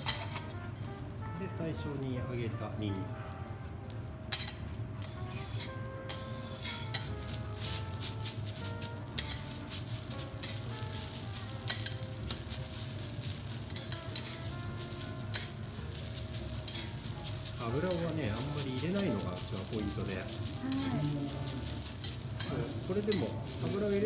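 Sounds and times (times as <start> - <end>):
metal spatulas scraping griddle: 0.0 - 0.9, 4.3 - 24.0
light sizzle: 0.0 - 24.0.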